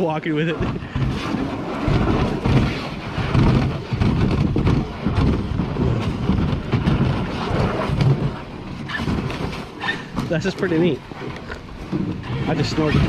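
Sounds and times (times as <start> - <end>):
boat hull scraping over ground: 0.4 - 13.0.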